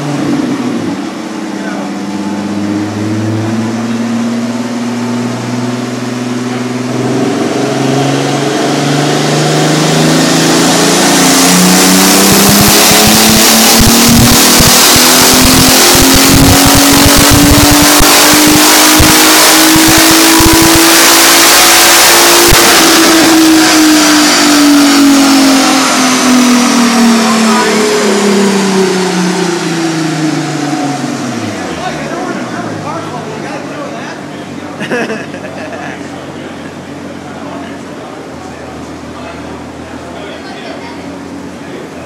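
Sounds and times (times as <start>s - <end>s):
car engine revving at full throttle: 0.0s - 42.0s.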